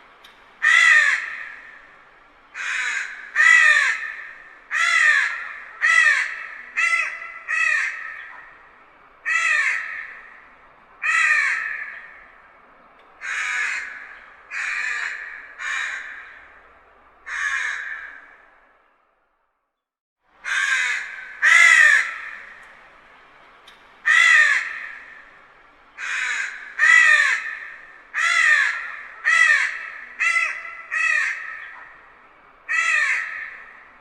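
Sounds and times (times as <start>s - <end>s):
crow cawing: 0.6s - 12.5s, 13.2s - 18.6s, 20.4s - 22.6s, 24.0s - 34.0s.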